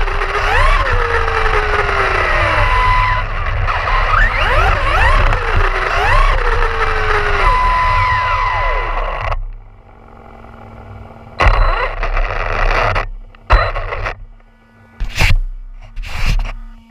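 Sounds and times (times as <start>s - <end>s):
rc car motor whining: 0.0s - 16.9s.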